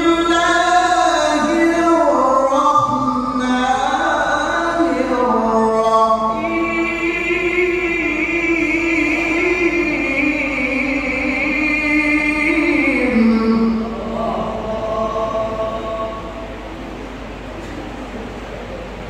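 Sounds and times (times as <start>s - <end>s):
man reciting melodically: 0.0s - 16.6s.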